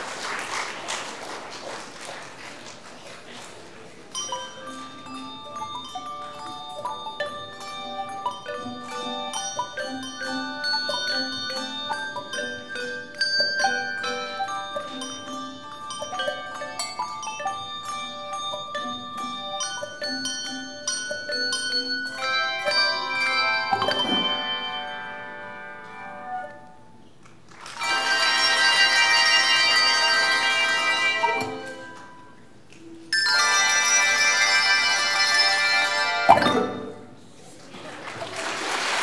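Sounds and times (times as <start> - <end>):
handbell choir playing: 4.1 - 26.8, 27.8 - 37.2.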